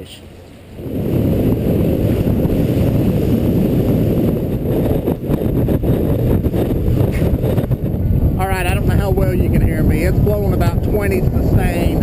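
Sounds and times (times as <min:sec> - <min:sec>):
wind buffeting microphone: 0:00.4 - 0:12.0.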